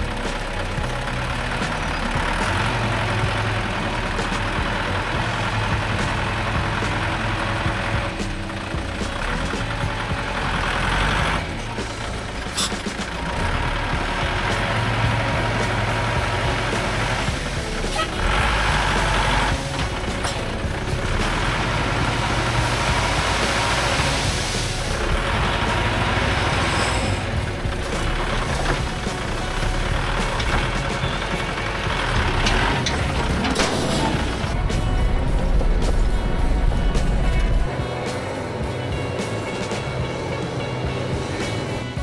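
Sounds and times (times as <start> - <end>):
heavy vehicle engine droning: 0.0 - 42.0.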